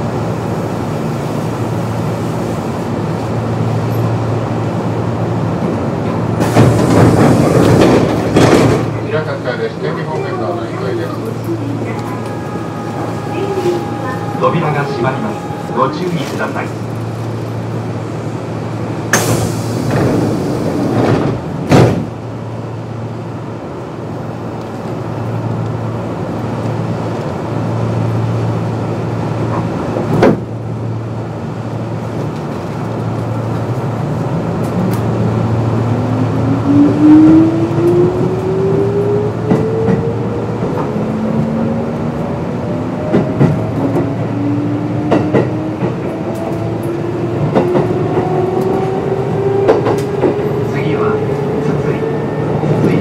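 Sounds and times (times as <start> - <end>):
electric train humming: 0.0 - 53.0.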